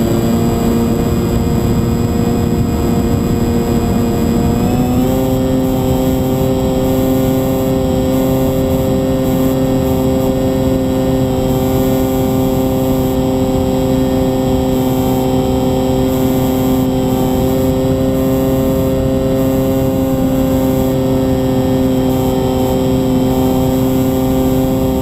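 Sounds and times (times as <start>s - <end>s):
model aircraft motor hum: 0.0s - 25.0s
wind rushing over microphone: 0.0s - 25.0s.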